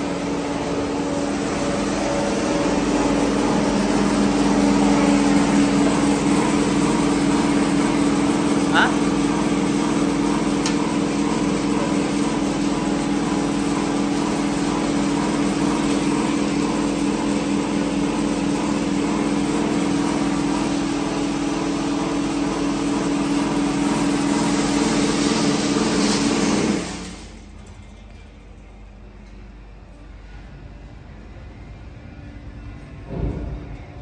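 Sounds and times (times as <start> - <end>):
hissing whir of rollers: 0.0 - 34.0
machine humming: 0.0 - 34.0.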